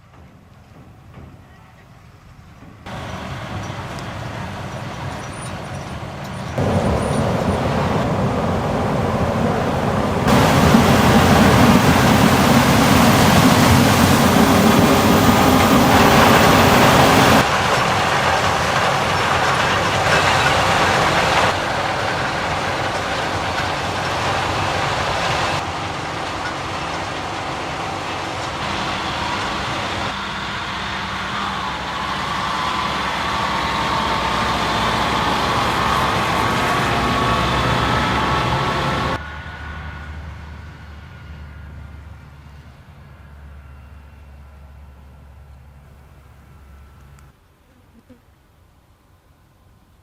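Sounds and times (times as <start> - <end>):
heavy farm machinery running: 2.3 - 47.1.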